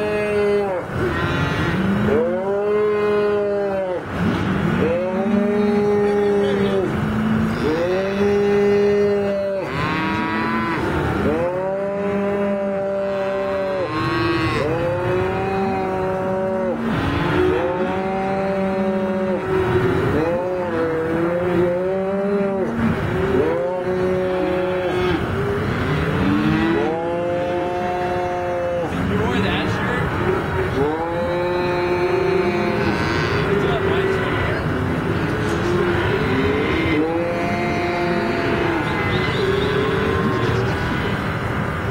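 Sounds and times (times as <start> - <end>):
calves bawling: 0.0 - 41.9.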